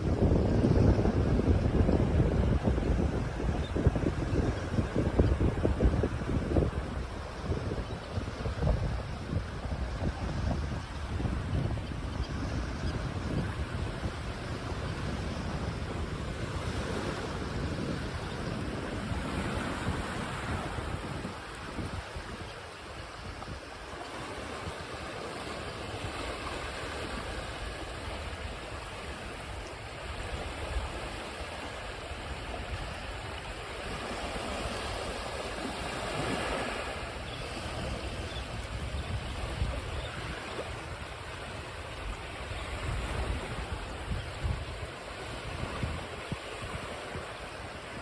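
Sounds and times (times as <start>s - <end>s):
ocean waves washing ashore: 0.0s - 48.0s.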